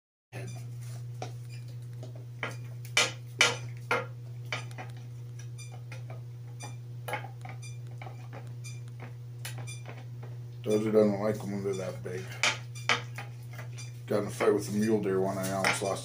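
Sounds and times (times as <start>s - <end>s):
steady low hum: 0.4s - 16.0s.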